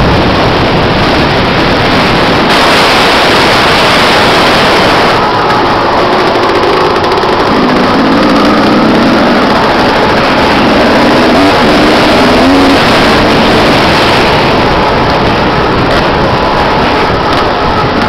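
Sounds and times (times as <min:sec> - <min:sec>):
loud steady rushing noise: 0:00.0 - 0:18.0
motorcycle engines revving: 0:00.0 - 0:18.0.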